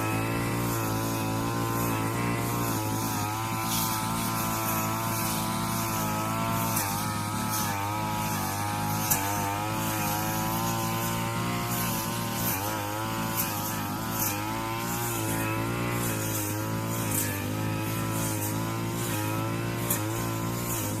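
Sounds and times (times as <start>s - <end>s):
brush cutter engine running: 0.0s - 21.0s.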